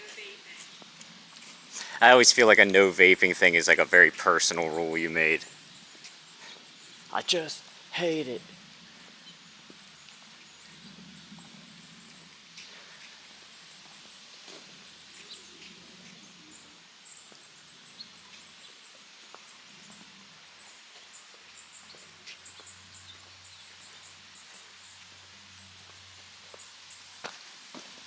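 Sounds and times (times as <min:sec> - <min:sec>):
small birds chirping: 0:00.0 - 0:27.4
outdoor hiss: 0:00.0 - 0:28.0.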